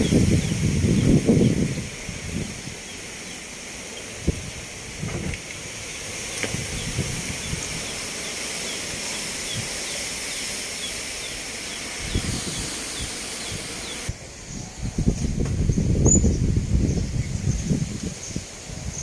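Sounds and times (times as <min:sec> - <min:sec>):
storm wind buffeting microphone: 0:00.0 - 0:10.0, 0:10.9 - 0:19.0
outdoor hiss: 0:00.0 - 0:19.0.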